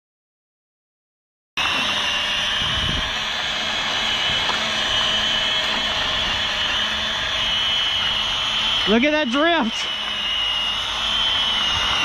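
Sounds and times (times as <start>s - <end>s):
electric motor whining: 1.6s - 12.0s.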